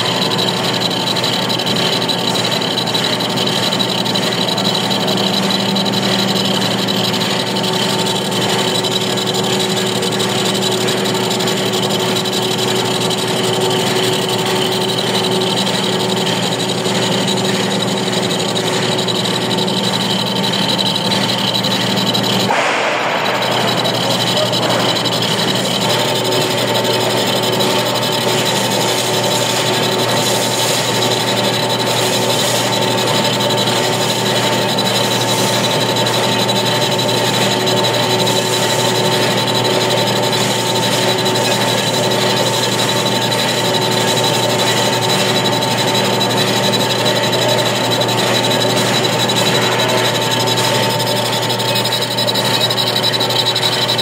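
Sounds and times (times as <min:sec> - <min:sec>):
metal lathe running: 0:00.0 - 0:54.0
steady whining tones: 0:00.0 - 0:54.0.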